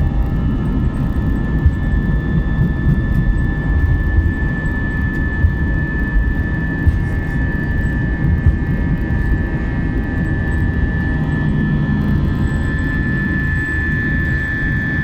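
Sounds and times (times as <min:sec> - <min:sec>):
constant high whine: 0:00.0 - 0:15.0
jet engine rumble in cabin: 0:00.0 - 0:15.0.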